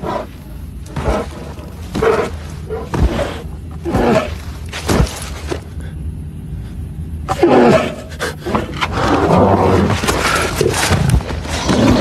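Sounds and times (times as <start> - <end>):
deep guttural growl: 0.0 - 5.7, 7.2 - 12.0
low rumble: 0.0 - 12.0.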